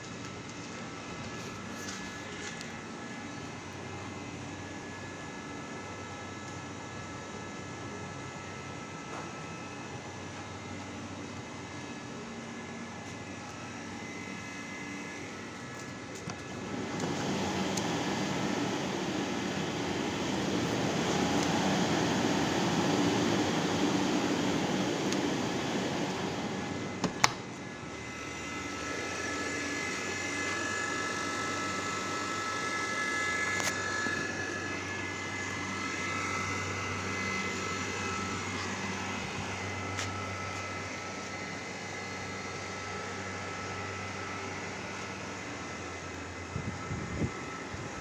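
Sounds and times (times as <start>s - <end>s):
cooling unit hum and fan: 0.0s - 48.0s.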